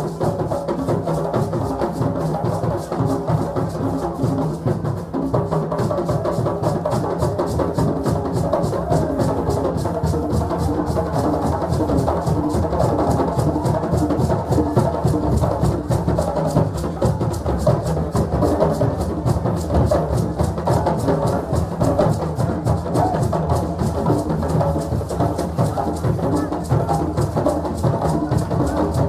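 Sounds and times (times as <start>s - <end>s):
drums playing fast rhythm: 0.0s - 29.0s.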